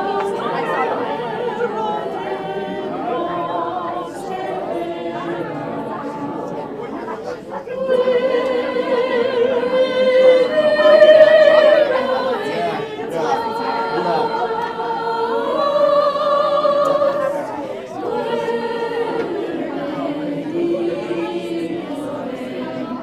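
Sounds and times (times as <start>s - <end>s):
choir singing a carol: 0.0s - 23.0s.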